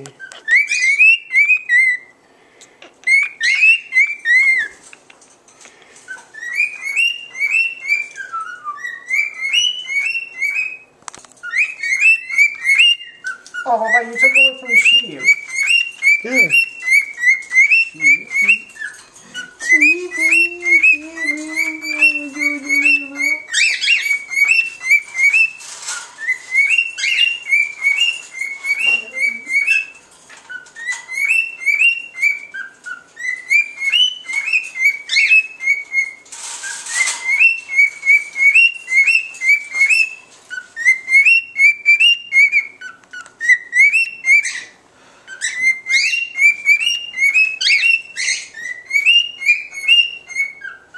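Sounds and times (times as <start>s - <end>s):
cockatiel whistling and chirping: 0.1s - 2.1s, 3.0s - 4.8s, 6.1s - 50.9s.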